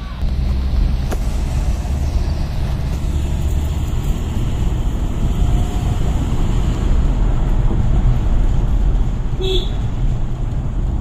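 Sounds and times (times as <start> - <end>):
diesel engine droning: 0.0 - 9.3.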